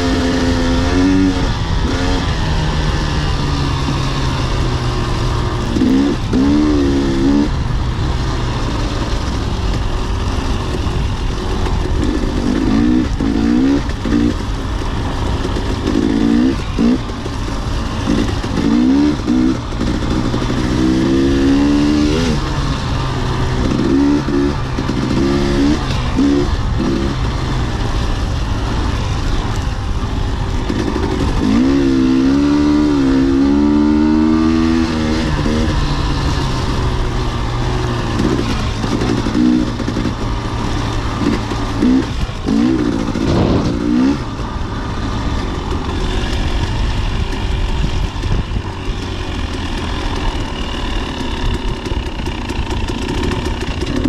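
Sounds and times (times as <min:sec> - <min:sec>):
constant rushing noise: 0:00.0 - 0:54.0
dirt bike engine revving: 0:00.0 - 0:54.0.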